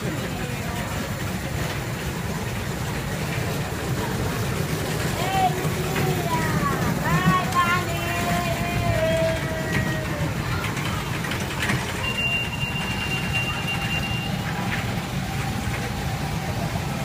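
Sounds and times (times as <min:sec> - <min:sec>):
ride vehicle low rumble: 0:00.0 - 0:17.0.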